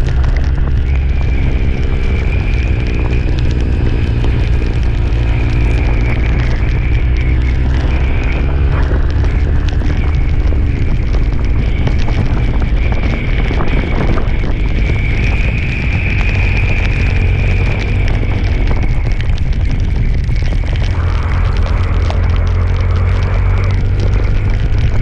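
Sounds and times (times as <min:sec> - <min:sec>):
faint whine: 0:00.0 - 0:25.0
vehicle running: 0:00.0 - 0:25.0
wind buffeting microphone: 0:00.0 - 0:25.0.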